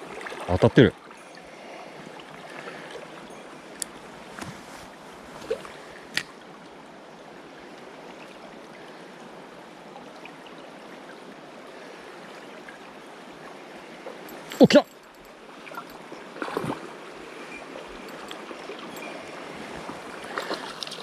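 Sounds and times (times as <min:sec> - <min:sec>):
river water running: 0:00.0 - 0:21.0.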